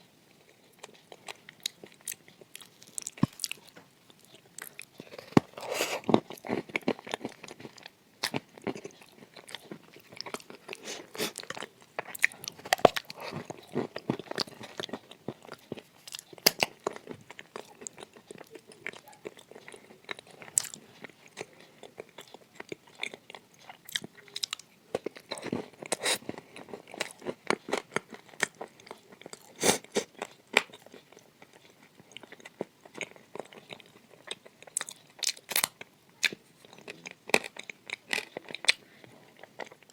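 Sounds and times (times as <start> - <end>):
crunching and chewing clay: 0.3 - 39.9.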